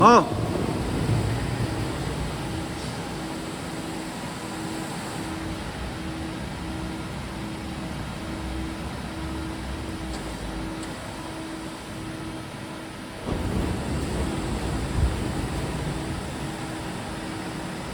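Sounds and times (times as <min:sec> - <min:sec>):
machine running noise: 0:00.0 - 0:17.9.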